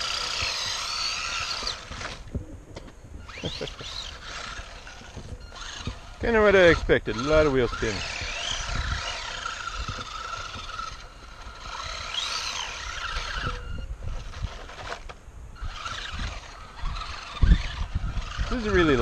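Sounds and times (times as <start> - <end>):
tyres spinning on rock: 0.0 - 2.3, 3.2 - 19.0
electric motor whining: 0.0 - 19.0.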